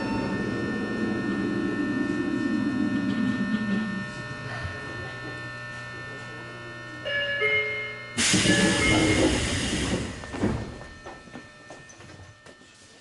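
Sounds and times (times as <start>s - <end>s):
steady electric hum: 0.0s - 13.0s
subway car running noise: 0.0s - 13.0s.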